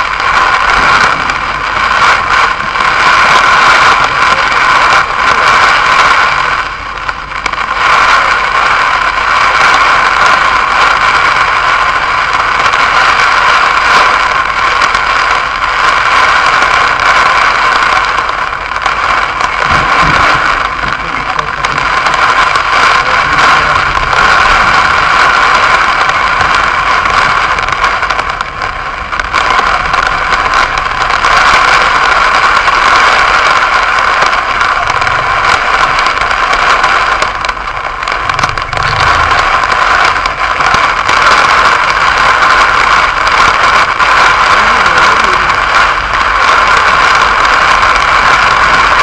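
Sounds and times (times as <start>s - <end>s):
heavy rain on car roof: 0.0s - 49.0s.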